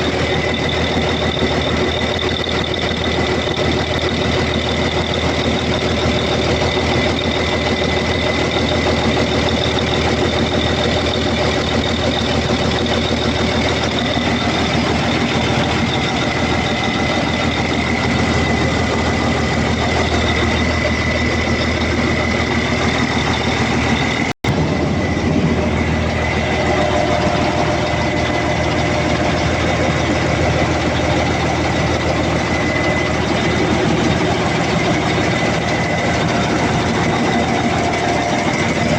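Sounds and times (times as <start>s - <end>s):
diesel engine idling: 0.0s - 38.9s
high-pitched whine: 0.0s - 38.9s.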